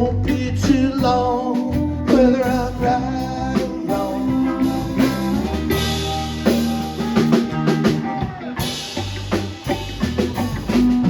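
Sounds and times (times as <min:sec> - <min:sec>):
bass guitar: 0:00.0 - 0:11.0
drum kit: 0:00.0 - 0:11.0
guitars: 0:00.0 - 0:11.0.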